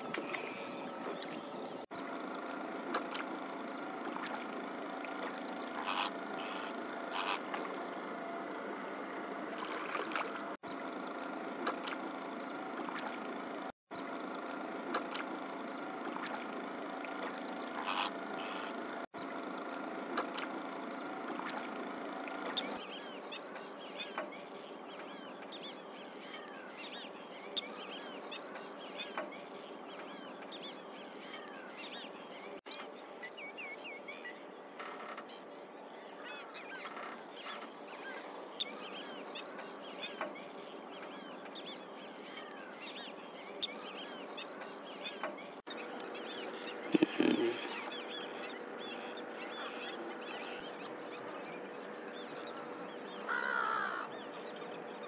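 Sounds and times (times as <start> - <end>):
boat motor humming: 0.0 - 55.0
bird calls and chirps: 10.7 - 55.0.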